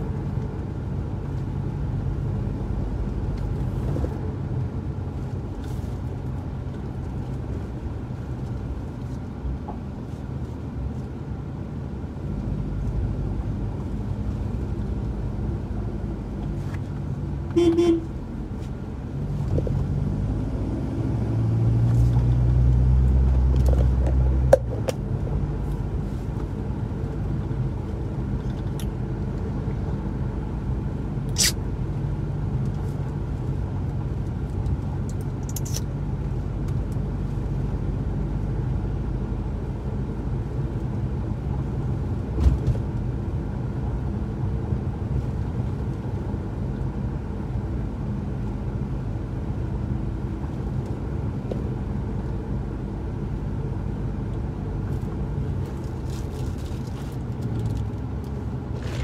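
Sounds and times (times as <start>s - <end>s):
engine and road noise: 0.0s - 59.0s.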